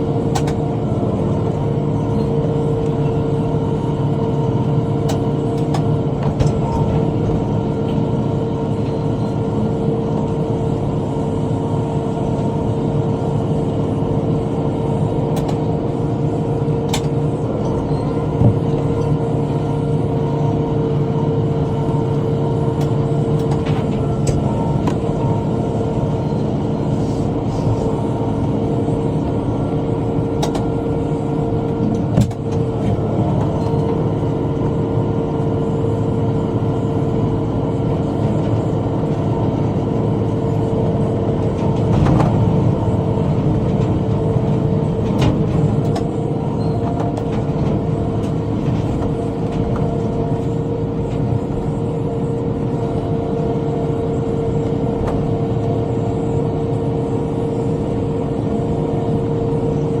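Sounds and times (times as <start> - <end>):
tractor engine running under load: 0.0 - 60.0.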